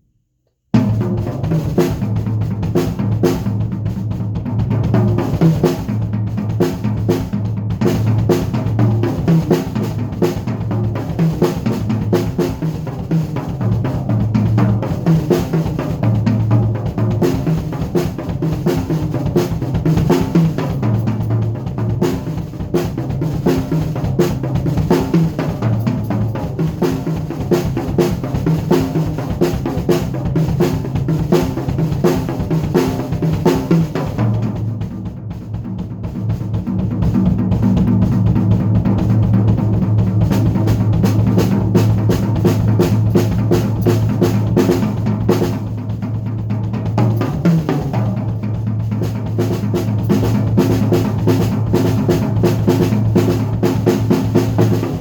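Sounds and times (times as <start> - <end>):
drum kit groove: 0.7 - 55.0
music with bass line: 0.8 - 55.0.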